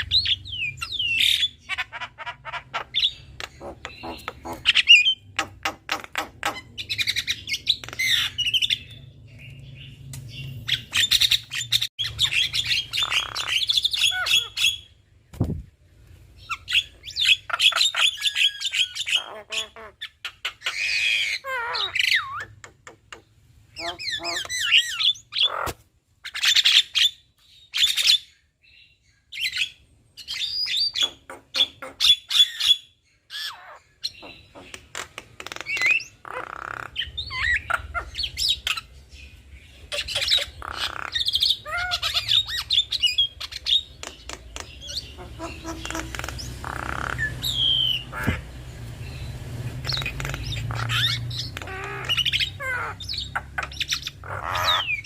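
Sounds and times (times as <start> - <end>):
birds squawking and whistling: 0.0 - 55.0.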